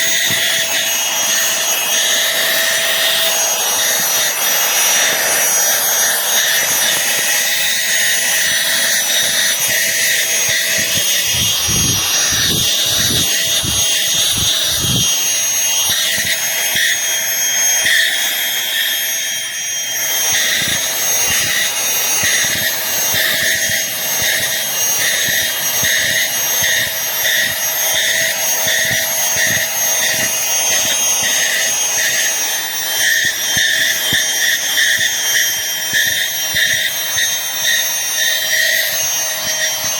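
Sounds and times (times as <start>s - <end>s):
handheld vacuum cleaner running: 0.0s - 39.9s.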